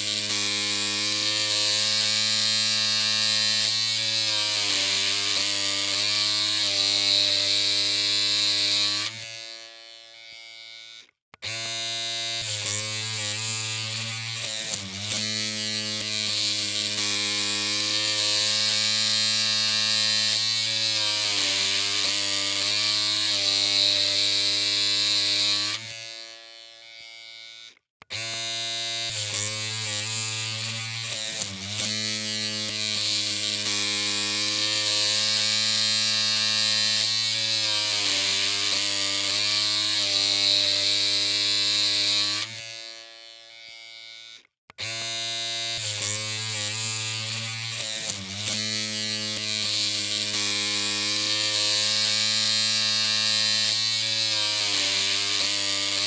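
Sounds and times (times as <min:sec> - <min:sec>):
electric hair clippers humming: 0:00.0 - 0:56.0.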